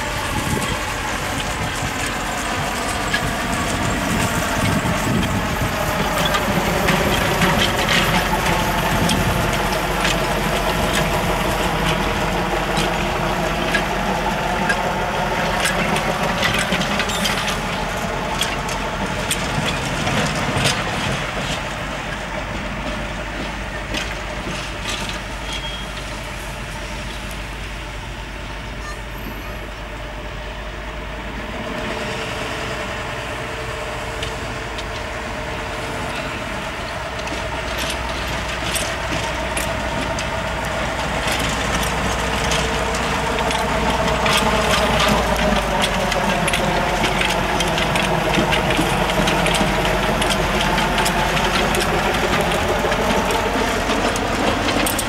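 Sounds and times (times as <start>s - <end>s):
locomotive diesel engine running: 0.0s - 55.0s.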